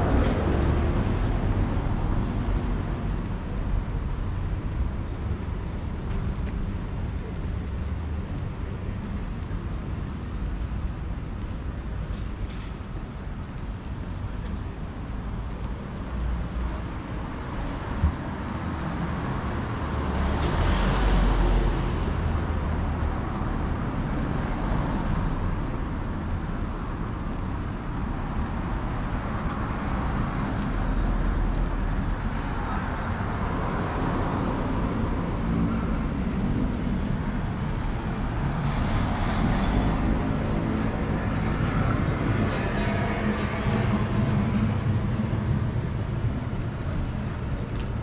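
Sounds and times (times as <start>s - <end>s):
steady road hum: 0.0s - 48.0s
vehicles passing: 0.0s - 48.0s.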